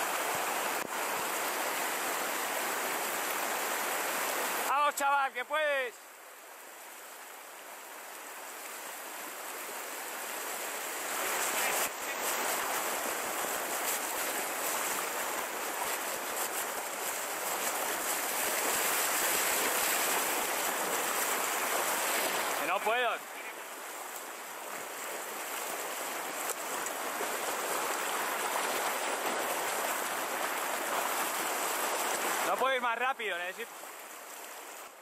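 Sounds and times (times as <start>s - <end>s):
river rushing over rapids: 0.0s - 35.0s.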